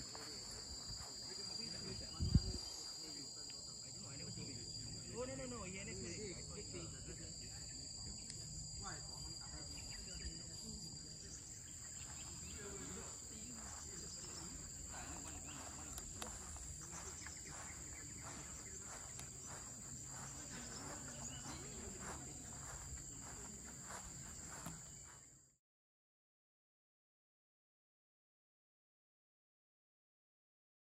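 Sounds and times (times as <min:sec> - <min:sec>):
high-pitched insect chorus: 0:00.0 - 0:25.4.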